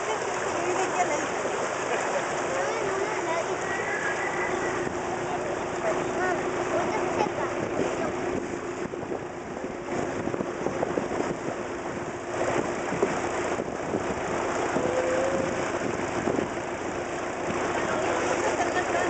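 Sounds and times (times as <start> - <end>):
boat engine running: 0.0 - 19.0
breaking sea water: 0.0 - 19.0.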